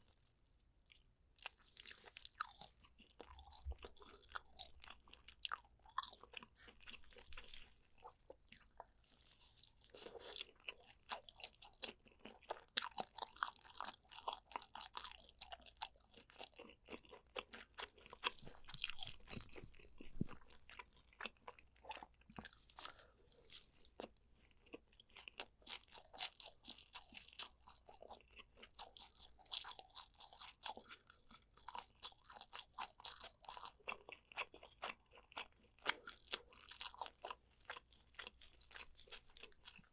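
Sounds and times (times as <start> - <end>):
close chewing and biting: 0.9 - 39.9.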